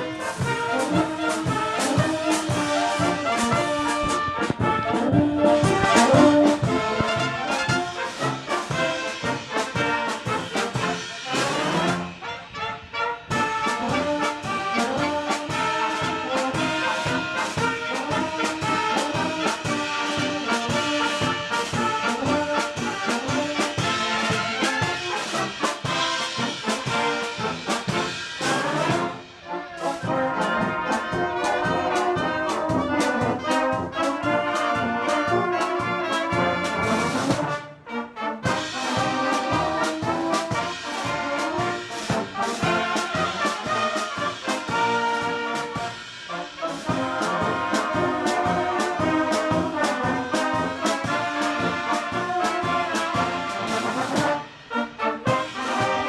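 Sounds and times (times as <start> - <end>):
brass band playing: 0.0 - 56.0.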